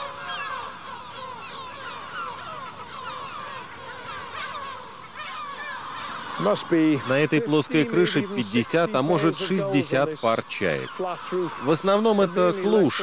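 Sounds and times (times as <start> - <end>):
gull colony calling: 0.0 - 13.0.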